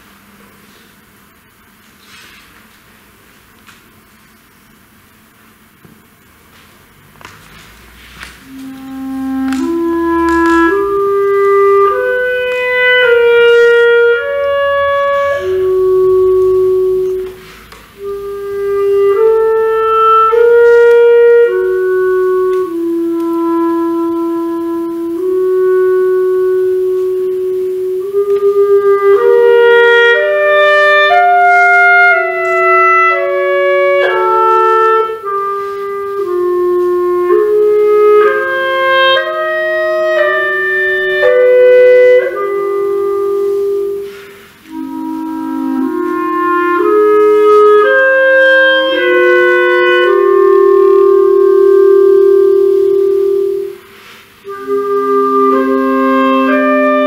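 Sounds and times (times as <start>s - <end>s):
clarinets playing chamber music: 6.4s - 57.0s.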